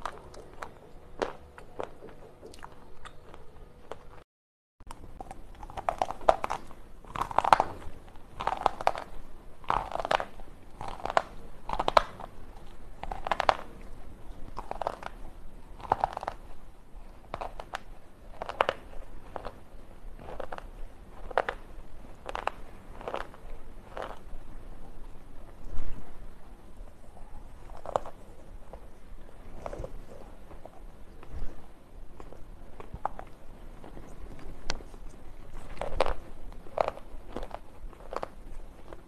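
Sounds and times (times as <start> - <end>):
brittle crunching of chewing: 0.0 - 4.2, 4.9 - 19.6, 20.2 - 24.3, 27.2 - 31.6, 32.2 - 39.0.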